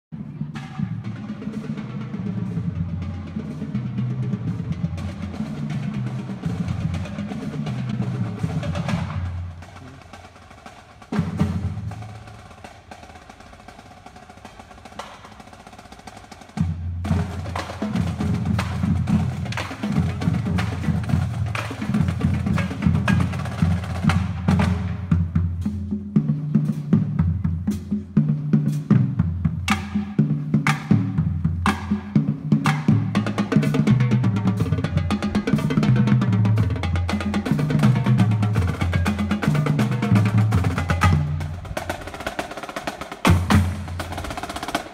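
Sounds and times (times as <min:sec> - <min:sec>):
marching band playing: 0:00.2 - 0:44.9.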